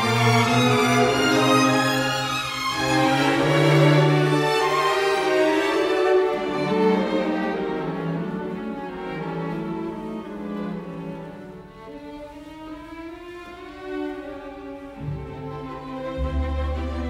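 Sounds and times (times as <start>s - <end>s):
slow violin and cello melody: 0.0s - 17.0s.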